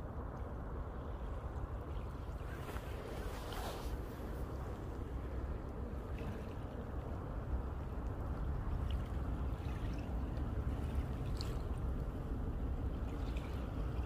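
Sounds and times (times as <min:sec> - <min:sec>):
waves lapping at shore: 0:00.0 - 0:14.0
wind rumble on microphone: 0:00.0 - 0:14.0.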